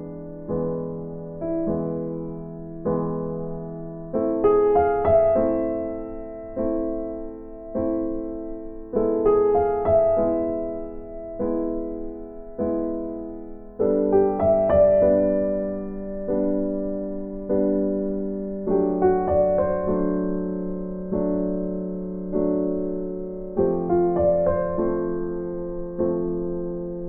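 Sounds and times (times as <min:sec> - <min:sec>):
slow piano music: 0:00.0 - 0:27.0.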